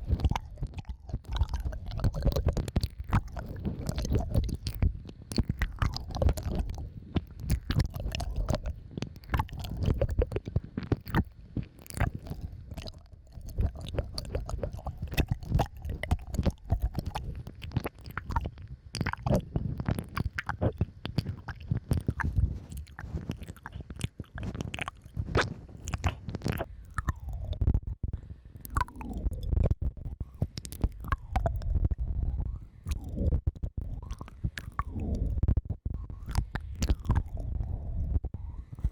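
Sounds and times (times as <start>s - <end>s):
wet mouth clicks and smacks: 0.0s - 27.8s, 28.6s - 32.0s, 32.8s - 37.7s.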